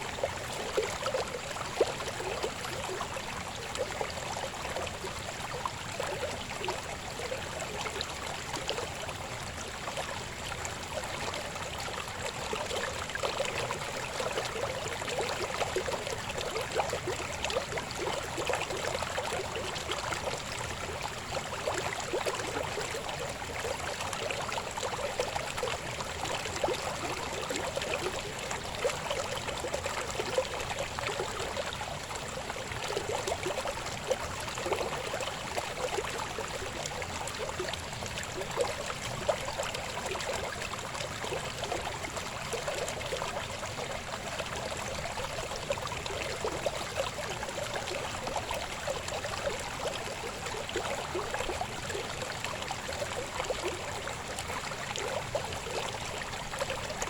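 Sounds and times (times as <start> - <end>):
river babbling over stones: 0.0 - 57.0.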